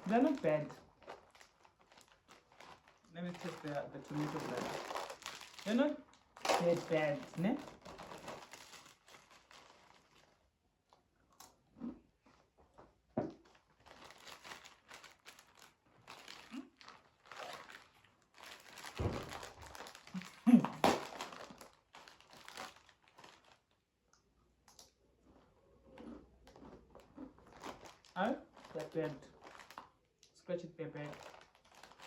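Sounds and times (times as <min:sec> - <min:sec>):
corn chips crunching: 0:00.0 - 0:10.4, 0:13.5 - 0:23.7, 0:24.7 - 0:30.0, 0:31.0 - 0:32.0
plastic chip packet crinkling: 0:00.0 - 0:11.5, 0:13.4 - 0:23.9, 0:24.7 - 0:30.3, 0:31.0 - 0:32.0.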